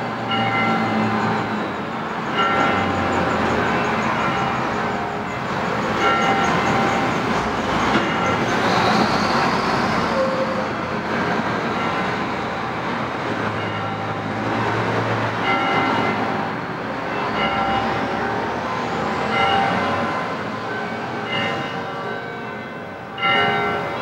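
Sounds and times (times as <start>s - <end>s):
street traffic: 0.0s - 24.0s
bells tolling: 0.1s - 10.5s, 13.5s - 24.0s.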